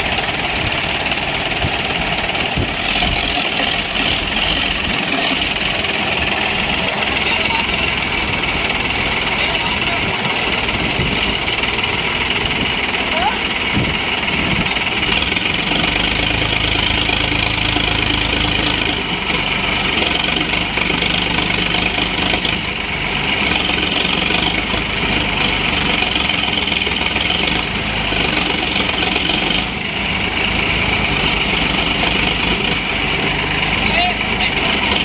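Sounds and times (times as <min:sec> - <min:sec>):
tractor diesel engines running: 0:00.0 - 0:35.0.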